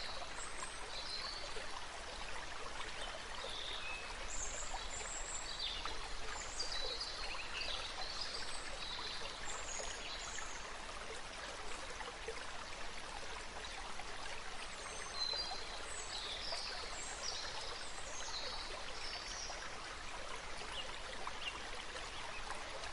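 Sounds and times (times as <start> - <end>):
flowing water: 0.0 - 22.9.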